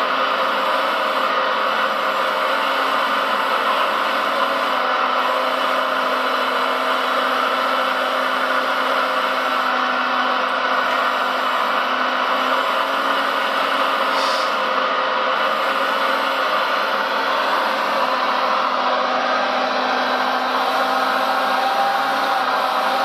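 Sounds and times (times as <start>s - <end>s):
electric pump and motors whirring: 0.0s - 23.0s.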